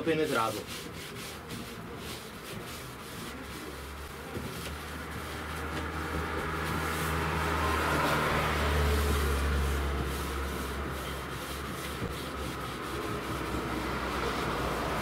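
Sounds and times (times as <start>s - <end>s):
vehicle engine hum approaching: 2.7s - 15.0s.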